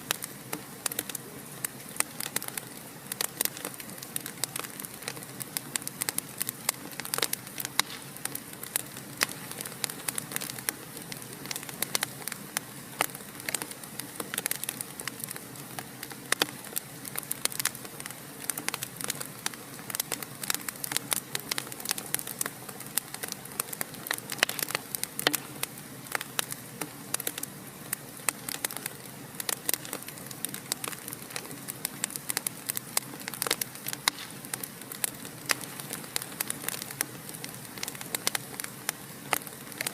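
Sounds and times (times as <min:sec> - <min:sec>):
soft hiss: 0:00.0 - 0:39.9
wood fire crackling: 0:00.0 - 0:39.9.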